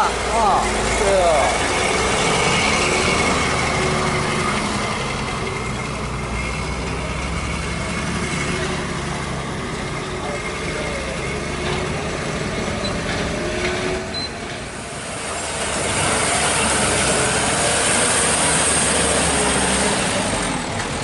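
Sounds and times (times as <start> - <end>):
heavy truck engines running: 0.0 - 21.0
hissing vehicle: 0.0 - 21.0.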